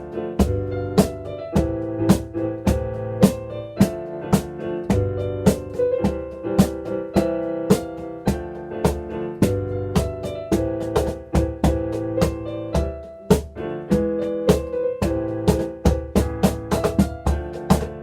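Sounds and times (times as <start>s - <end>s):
piano chords: 0.0s - 18.0s
cajon slaps: 0.4s - 18.0s.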